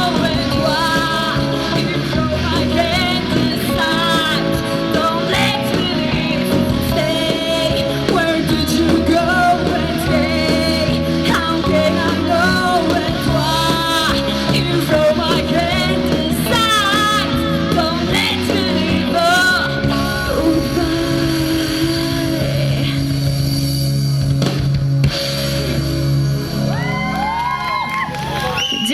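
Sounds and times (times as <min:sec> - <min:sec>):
person singing: 0:00.0 - 0:23.4
rock band playing: 0:00.0 - 0:28.9.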